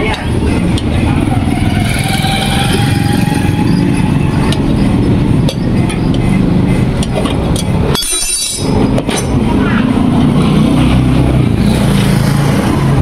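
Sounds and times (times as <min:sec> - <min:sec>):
traffic noise: 0:00.0 - 0:13.0
vehicle engine: 0:00.0 - 0:13.0.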